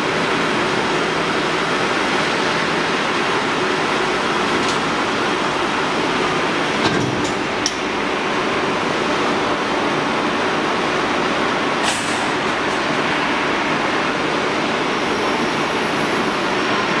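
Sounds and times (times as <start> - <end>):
machine line running noise: 0.0 - 17.0.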